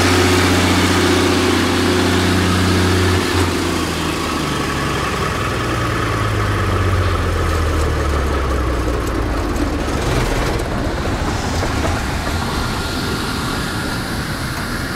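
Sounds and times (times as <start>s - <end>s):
diesel generator droning: 0.0s - 14.9s.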